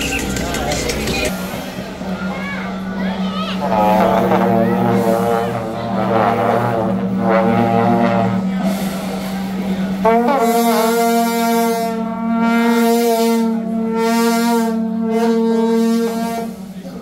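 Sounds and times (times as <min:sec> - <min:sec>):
long horns blowing sustained notes: 0:02.9 - 0:17.0.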